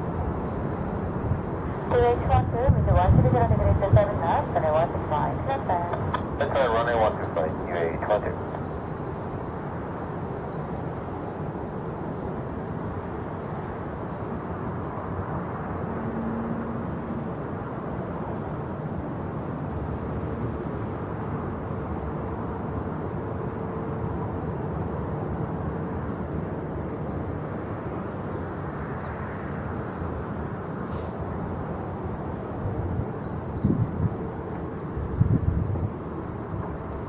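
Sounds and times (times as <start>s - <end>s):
jet airliner engine noise: 0.0s - 37.0s.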